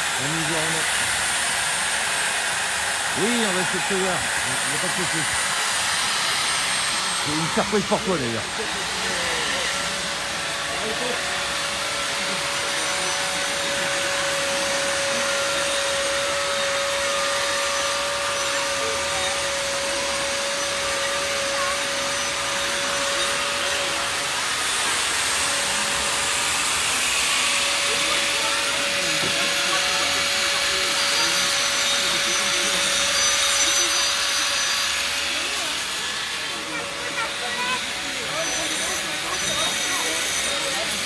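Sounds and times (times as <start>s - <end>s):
rotary carving tool whine: 0.0s - 41.0s.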